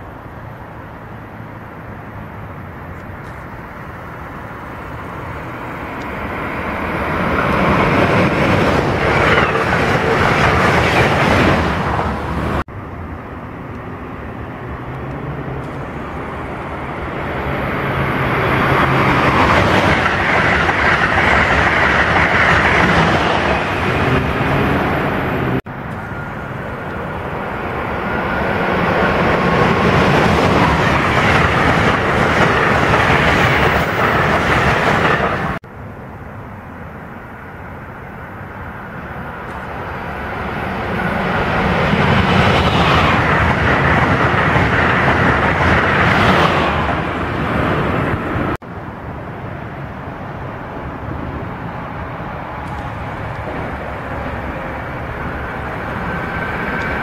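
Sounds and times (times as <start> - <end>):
train wheel and rail noise: 0.0 - 57.0.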